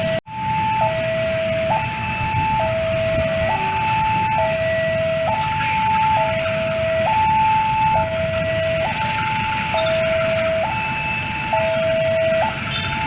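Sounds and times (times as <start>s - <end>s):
level-crossing two-tone alarm: 0.0s - 13.0s.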